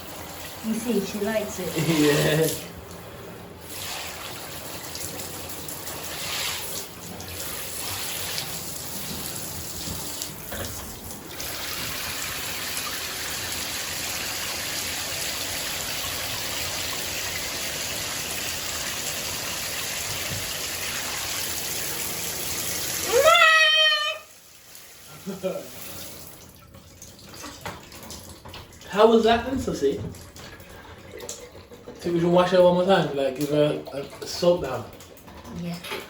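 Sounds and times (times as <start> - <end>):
shower water splashing: 0.0 - 36.0.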